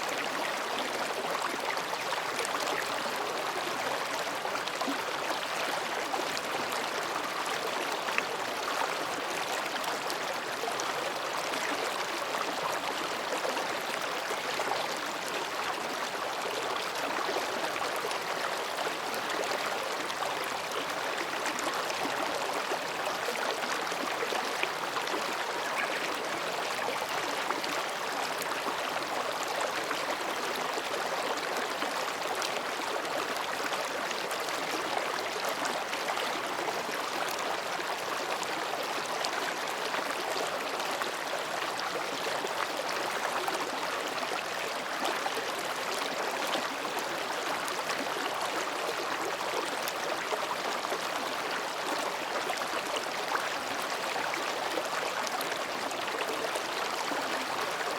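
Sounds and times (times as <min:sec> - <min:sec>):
stream babbling over rocks: 0:00.0 - 0:57.9.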